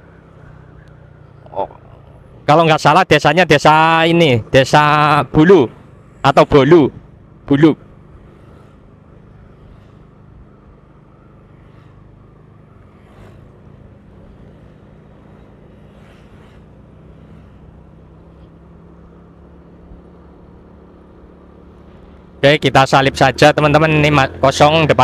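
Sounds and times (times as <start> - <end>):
vehicle engine and road hum: 0.0 - 25.0.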